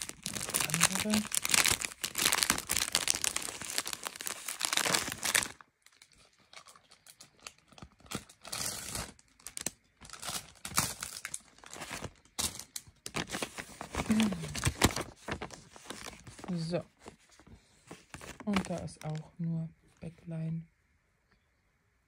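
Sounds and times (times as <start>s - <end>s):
paper and plastic rustling: 0.0s - 19.3s.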